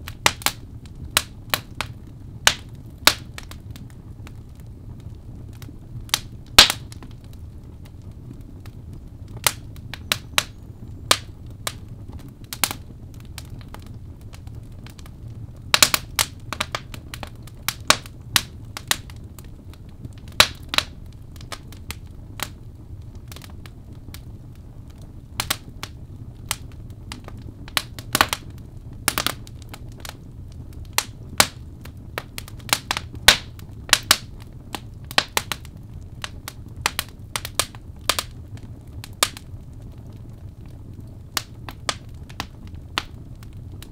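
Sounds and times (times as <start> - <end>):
logs crackling and popping in fire: 0.0 - 43.9
low rumble of flame: 0.0 - 43.9.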